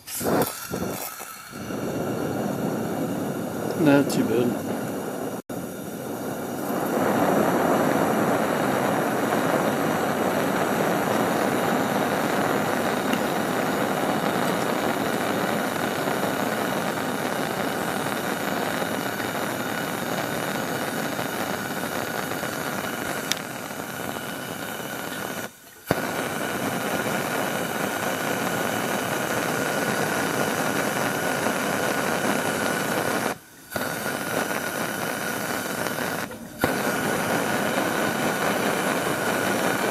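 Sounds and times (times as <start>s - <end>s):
gas lantern hissing: 0.0s - 39.9s.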